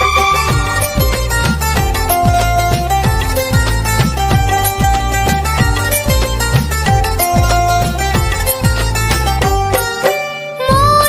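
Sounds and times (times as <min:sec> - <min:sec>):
low drum hits: 0:00.0 - 0:09.9
instrumental film music: 0:00.0 - 0:11.0.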